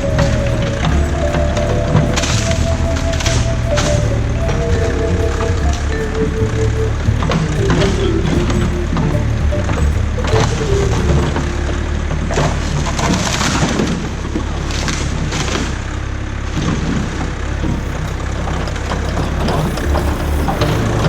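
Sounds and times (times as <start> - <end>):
backhoe engine running: 0.0 - 15.2, 17.4 - 21.0.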